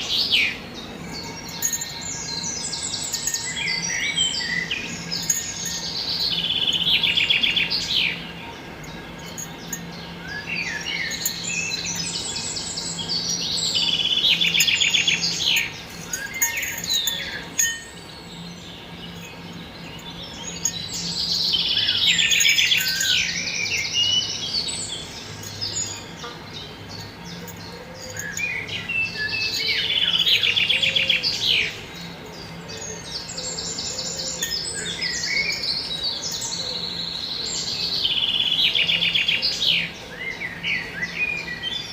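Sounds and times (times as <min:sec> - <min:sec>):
songbirds trilling and chirping: 0:00.0 - 0:41.9.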